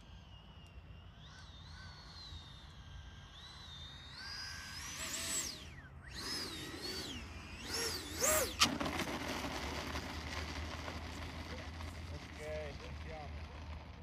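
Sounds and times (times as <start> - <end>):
electric ducted fan whining: 0.0 - 14.0.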